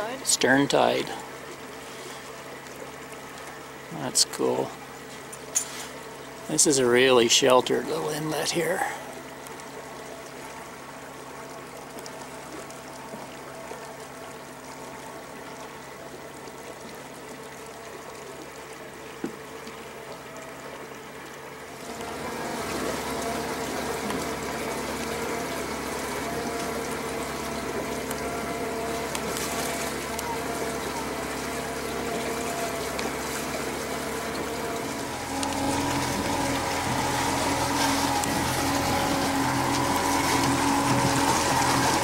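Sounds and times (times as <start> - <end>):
outboard motor running: 0.0 - 42.0
water washing along hull: 0.0 - 42.0.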